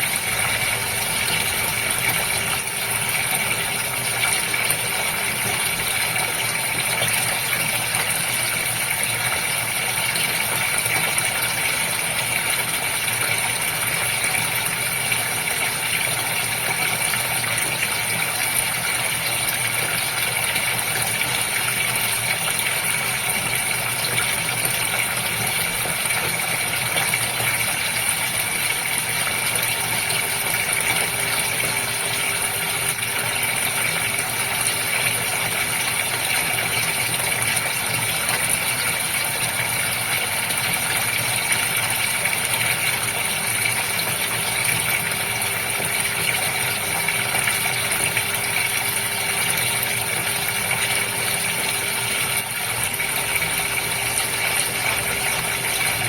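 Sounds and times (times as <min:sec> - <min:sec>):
pump humming: 0:00.0 - 0:56.0
water splashing and bubbling: 0:00.0 - 0:56.0.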